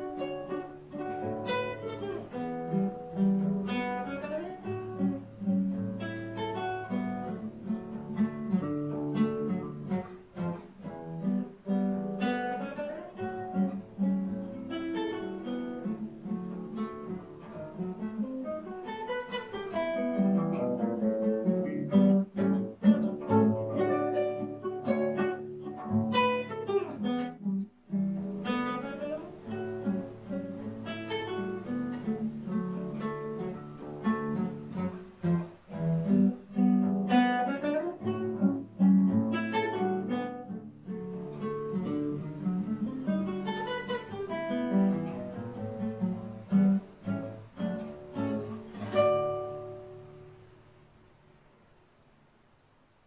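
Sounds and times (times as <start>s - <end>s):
classical guitar fingerstyle: 0.0s - 53.0s.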